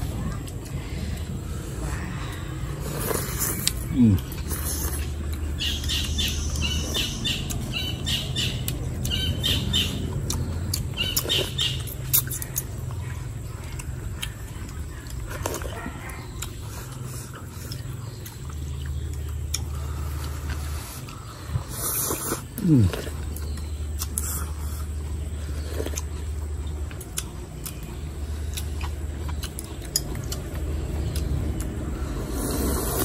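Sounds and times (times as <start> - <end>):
birds calling: 0.0 - 33.0
steady low hum: 0.0 - 33.0.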